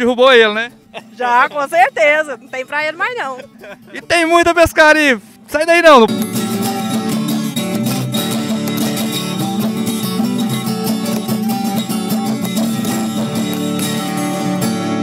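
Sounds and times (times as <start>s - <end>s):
plucked and strummed guitar music: 0.0s - 4.5s, 5.2s - 15.0s.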